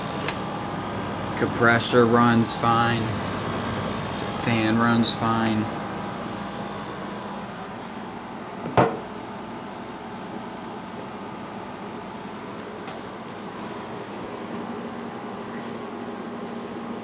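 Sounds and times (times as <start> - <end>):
air conditioner whirring: 0.0 - 17.0.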